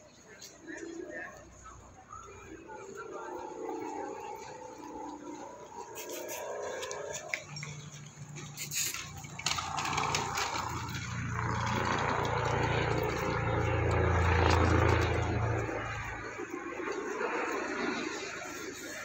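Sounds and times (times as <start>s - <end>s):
street noise: 0.0s - 19.0s
vehicle engine passing: 2.1s - 19.0s.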